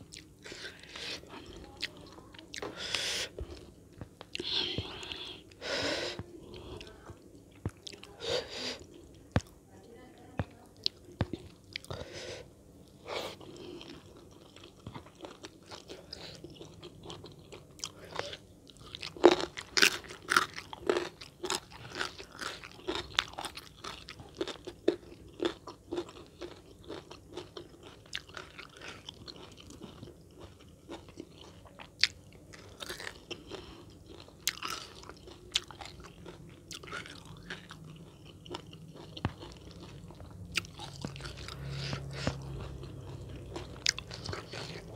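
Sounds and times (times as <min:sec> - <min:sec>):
person chewing crunchy food: 0:00.0 - 0:09.6, 0:10.8 - 0:44.9.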